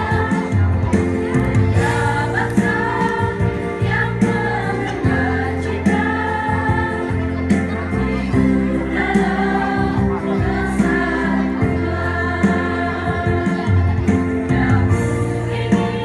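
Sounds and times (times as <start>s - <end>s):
instrumental backing with bass notes: 0.0s - 16.0s
women's choir singing: 0.0s - 16.0s.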